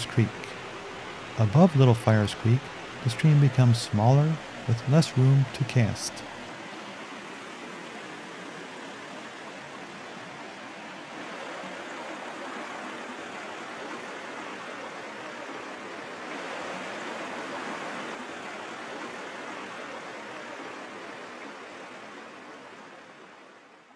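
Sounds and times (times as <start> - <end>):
stream rushing over stones: 0.0 - 23.9.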